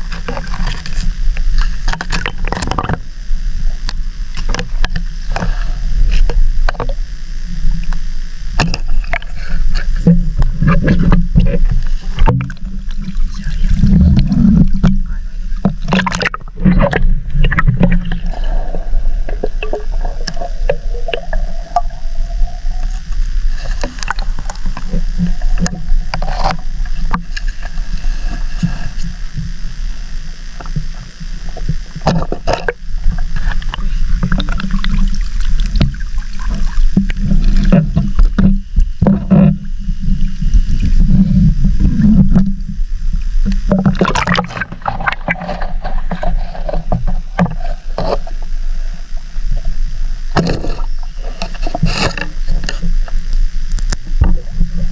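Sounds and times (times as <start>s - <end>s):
underwater water rumble: 0.0s - 54.9s.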